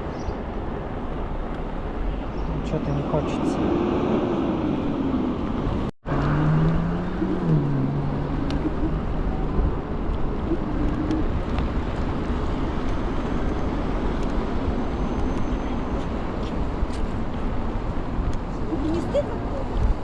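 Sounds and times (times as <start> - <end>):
wind rush: 0.0 - 18.8
road rumble: 0.0 - 20.0.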